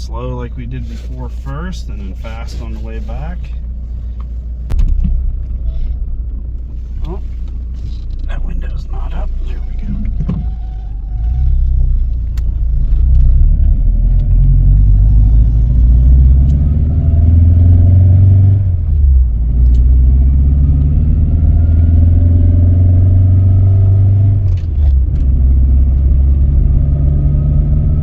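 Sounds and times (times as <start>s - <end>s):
engine and road drone in car: 0.0s - 28.0s.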